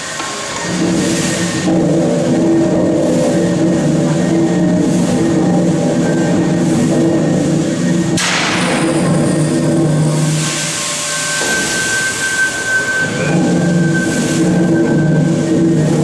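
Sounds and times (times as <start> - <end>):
steam engine droning hum: 0.0 - 16.0
steam hissing: 0.0 - 16.0.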